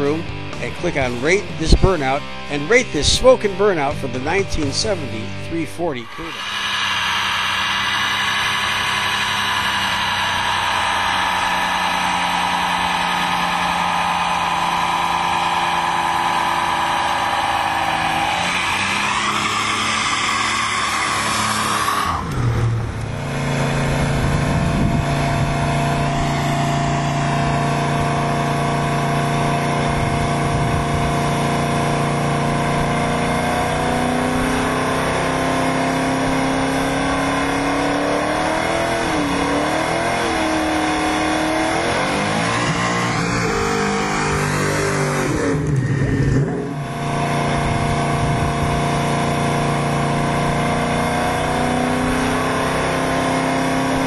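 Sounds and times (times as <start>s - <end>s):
car engine revving: 0.0s - 54.0s
tires spinning: 6.1s - 54.0s.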